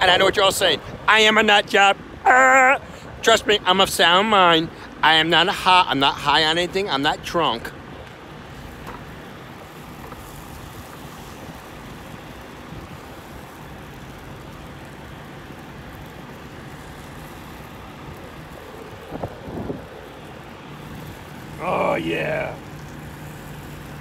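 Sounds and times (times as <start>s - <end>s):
vehicle traffic rumble: 0.0s - 24.0s
wind: 0.0s - 24.0s.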